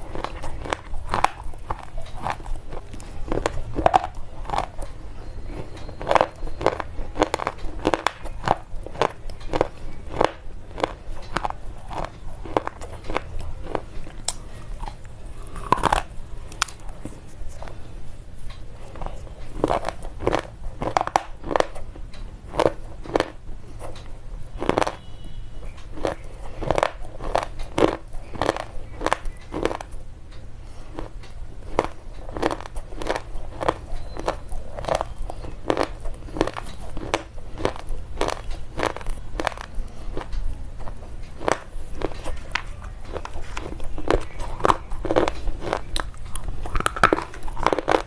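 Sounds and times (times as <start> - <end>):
pencil being chewed crunching: 0.0 - 30.0, 30.7 - 48.0.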